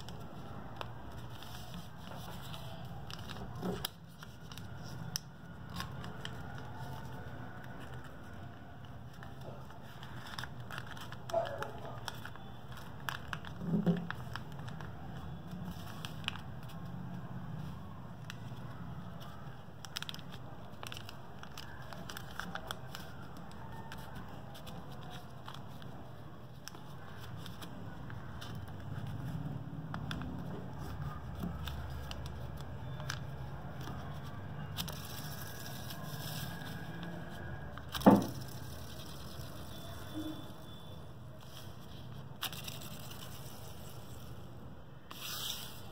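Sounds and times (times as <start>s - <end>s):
paper being folded and creased: 0.0s - 45.9s.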